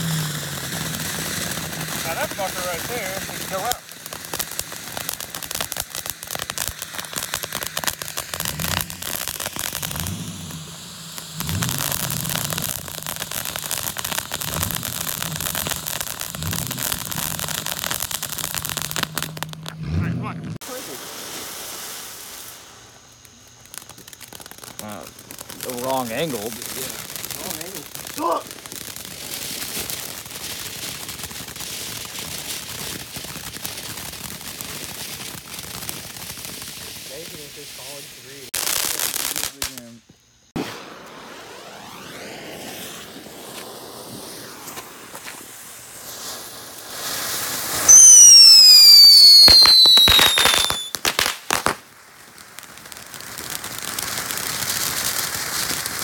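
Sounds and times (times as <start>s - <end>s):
firework crackling hiss: 0.0s - 56.0s.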